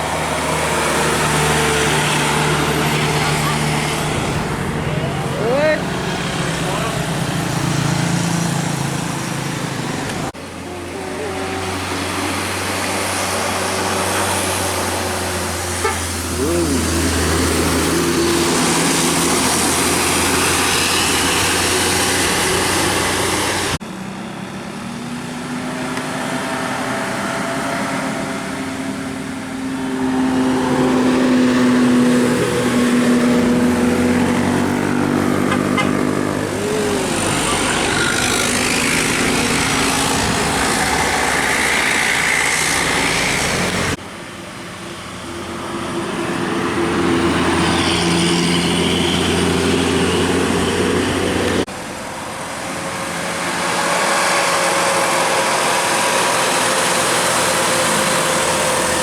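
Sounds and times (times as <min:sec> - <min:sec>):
bus engine: 0:00.0 - 0:59.0
traffic noise: 0:00.0 - 0:59.0.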